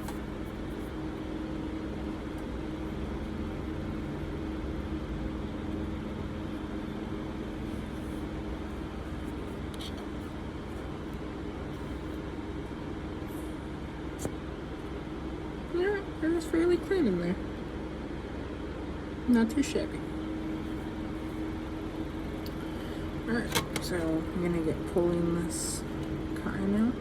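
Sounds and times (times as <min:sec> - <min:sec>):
room fans droning: 0:00.0 - 0:27.0.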